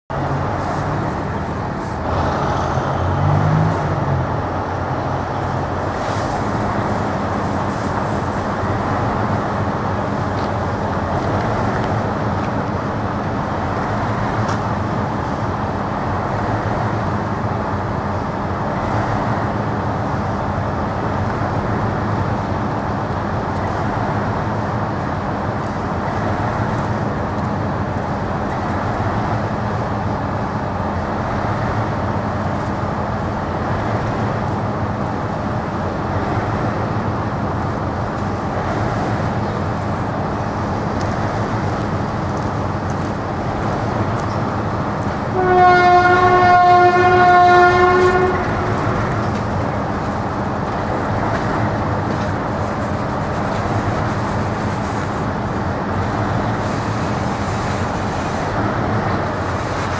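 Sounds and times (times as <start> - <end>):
diesel locomotive engine running: 0.1 - 59.9
rumble of rolling coaches: 0.1 - 59.9.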